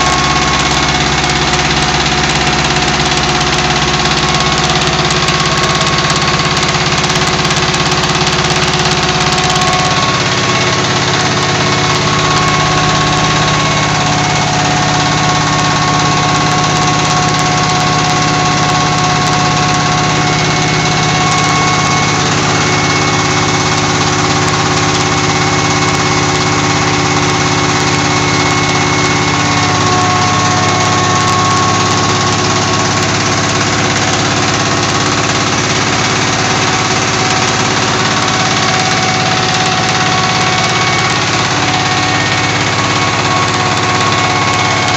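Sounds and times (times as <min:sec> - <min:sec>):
diesel engine driving flour mill: 0:00.0 - 0:44.9.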